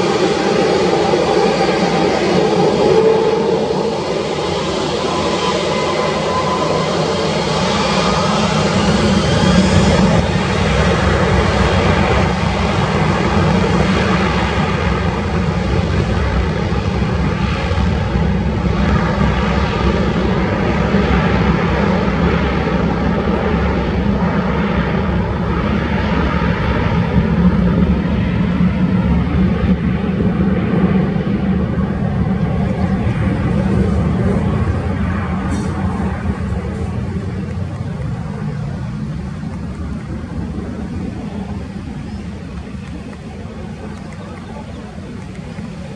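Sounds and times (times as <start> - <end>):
jet engine roar: 0.0 - 45.9.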